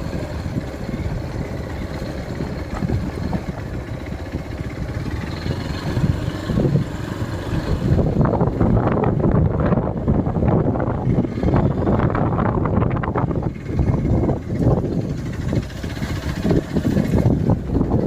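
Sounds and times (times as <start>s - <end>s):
vehicle rumbling off-road: 0.0s - 18.0s
wind buffeting microphone: 0.0s - 18.0s.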